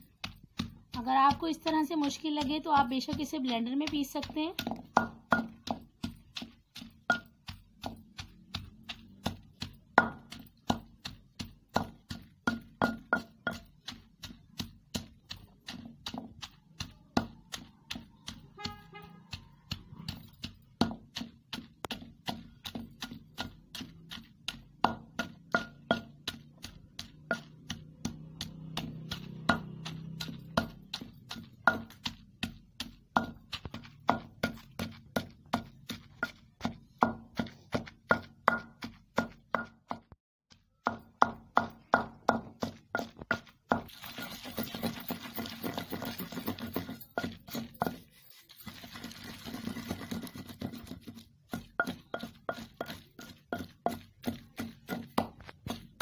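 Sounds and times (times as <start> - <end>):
wooden pestle pounding in mortar: 0.0 - 56.0.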